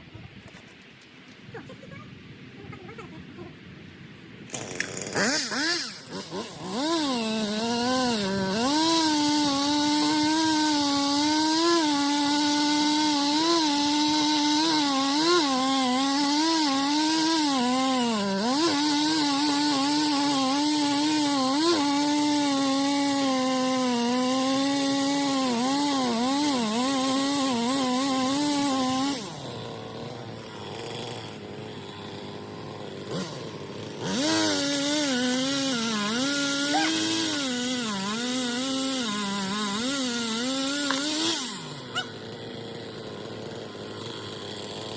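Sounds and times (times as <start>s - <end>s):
chainsaw cutting wood: 4.4s - 44.9s.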